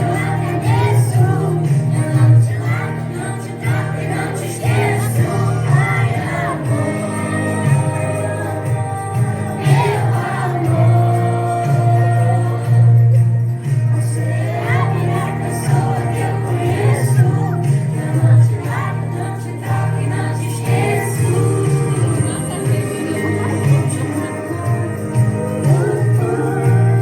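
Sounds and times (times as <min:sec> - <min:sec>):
upbeat music with singing: 0:00.0 - 0:27.0.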